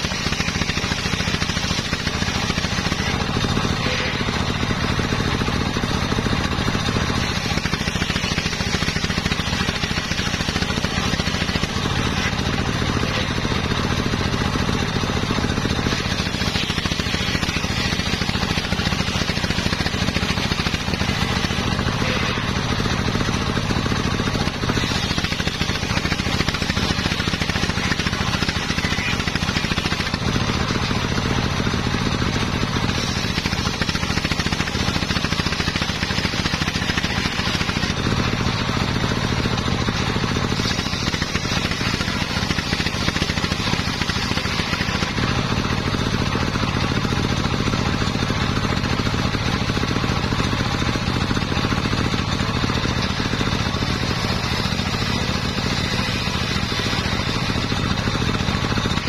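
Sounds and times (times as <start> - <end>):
circular saw cutting wood: 0.0 - 59.0
motor drone: 0.0 - 59.0.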